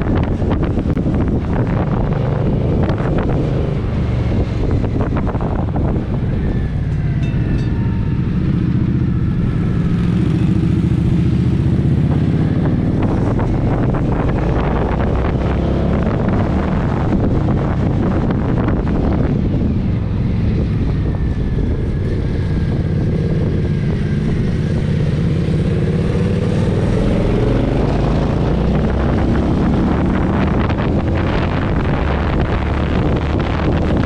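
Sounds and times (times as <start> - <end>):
motorcycle engine running: 0.0 - 34.0
wind rushing over microphone: 0.0 - 34.0.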